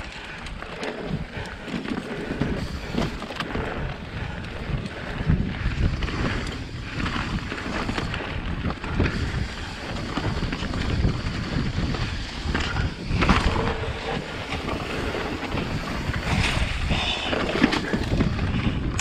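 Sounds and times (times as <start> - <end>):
tyres rumbling on dirt: 0.0 - 19.0
wind buffeting microphone: 0.0 - 19.0.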